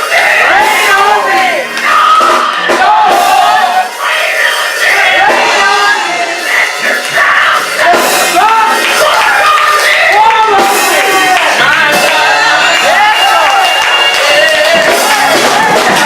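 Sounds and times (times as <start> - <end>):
loud church music: 0.0 - 16.0
voices shouting and singing: 0.0 - 16.0.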